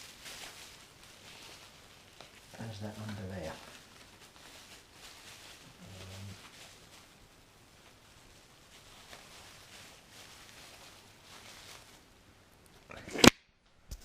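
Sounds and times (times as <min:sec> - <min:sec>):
packing material rustling: 0:00.0 - 0:12.4.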